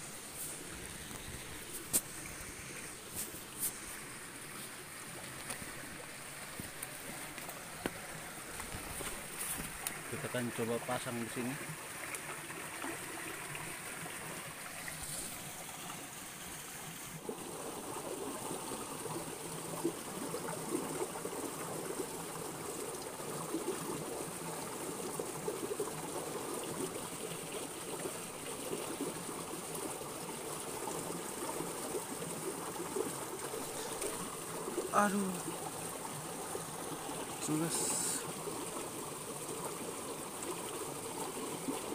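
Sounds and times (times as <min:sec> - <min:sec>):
stream trickling over rocks: 0:00.0 - 0:41.9.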